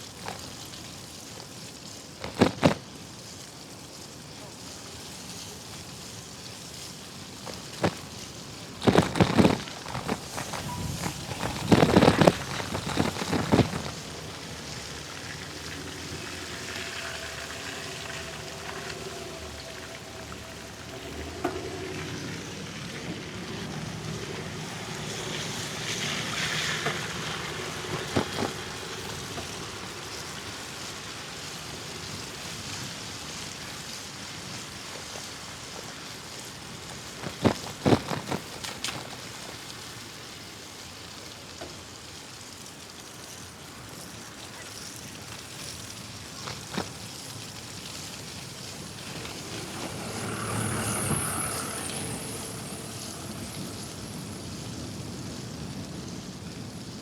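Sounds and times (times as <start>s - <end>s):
wind and road noise: 0.0s - 3.6s, 4.8s - 41.6s, 44.9s - 57.0s
traffic: 4.4s - 40.7s, 43.5s - 57.0s.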